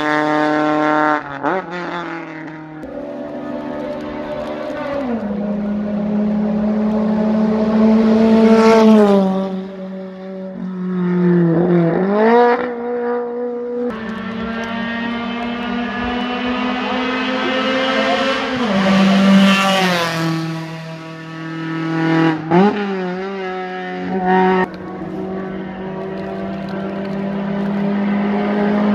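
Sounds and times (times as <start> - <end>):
rally cars passing at high revs: 0.0 - 28.9.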